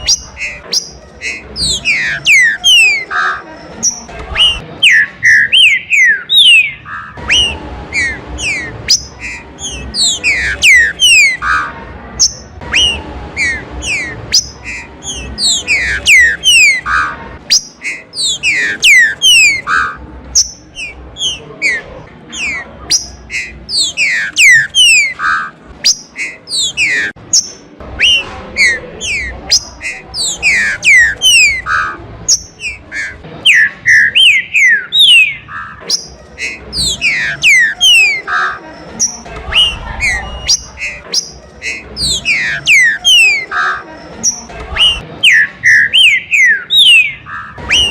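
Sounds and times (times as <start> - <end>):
bird singing whistled phrases: 0.0 - 38.4, 39.0 - 47.9.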